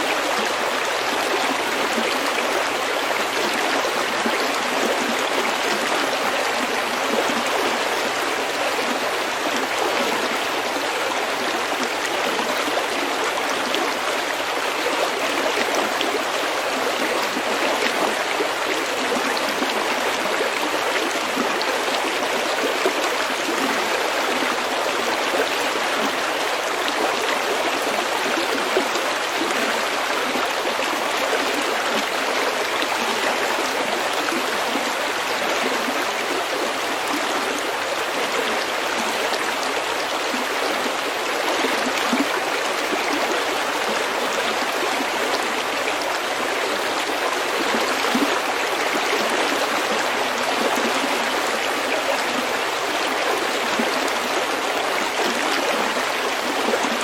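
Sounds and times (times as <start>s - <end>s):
stream babbling over pebbles: 0.0s - 57.0s.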